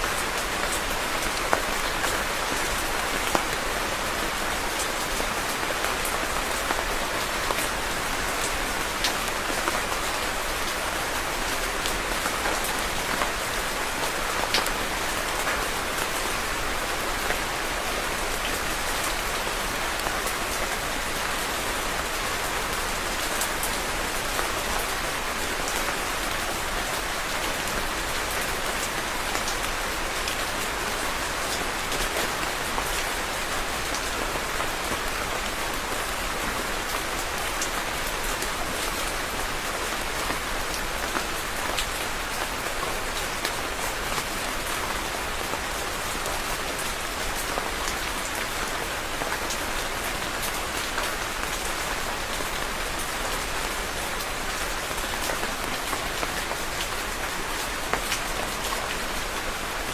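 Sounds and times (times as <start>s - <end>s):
rain pattering on a surface: 0.0s - 59.9s.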